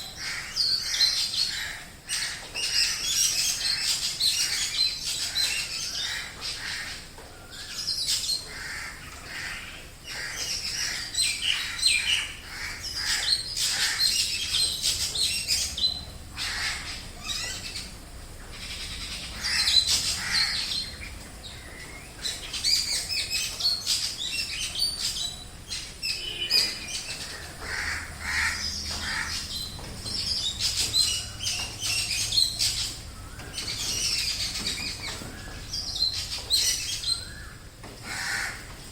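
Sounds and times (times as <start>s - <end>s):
chorus of wild birds calling: 0.0s - 38.9s.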